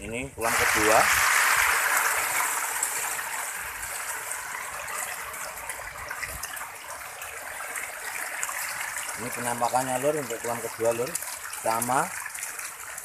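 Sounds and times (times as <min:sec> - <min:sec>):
fish splashing in water: 0:00.5 - 0:13.0.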